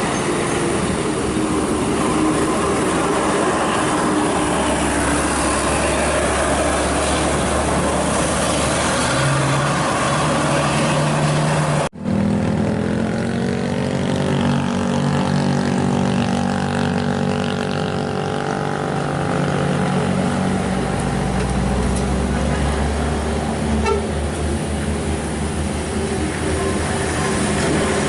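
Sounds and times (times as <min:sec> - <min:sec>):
heavy vehicle engine climbing: 0:00.0 - 0:28.0.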